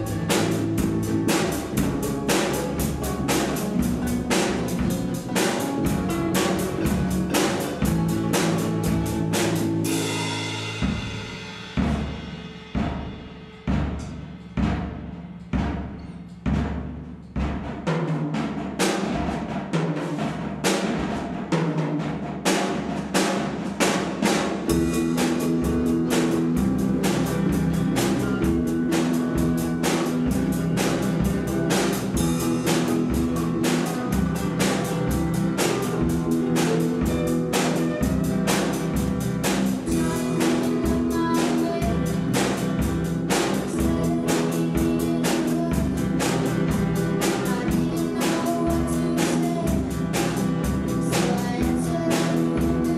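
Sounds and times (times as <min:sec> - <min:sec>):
drum break hits: 0:00.0 - 0:52.9
rock band playing: 0:00.0 - 0:52.9.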